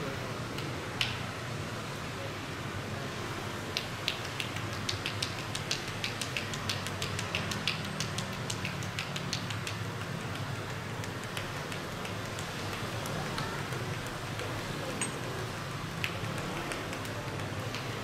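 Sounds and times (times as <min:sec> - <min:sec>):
low street hum: 0:00.0 - 0:18.0
hands slapping bare skin: 0:00.6 - 0:01.2, 0:03.7 - 0:18.0.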